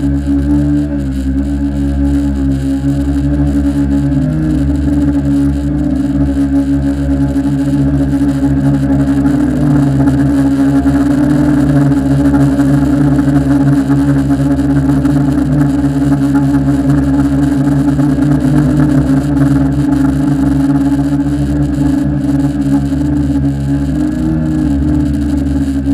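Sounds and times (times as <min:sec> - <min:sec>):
drone motors and propellers humming: 0:00.0 - 0:25.9.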